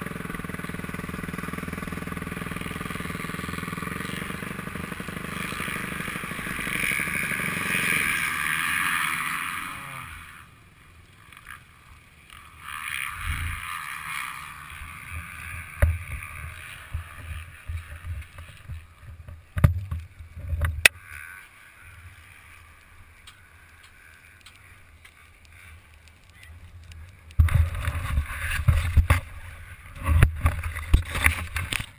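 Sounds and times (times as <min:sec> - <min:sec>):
motocross bike engine running: 0:00.0 - 0:31.9.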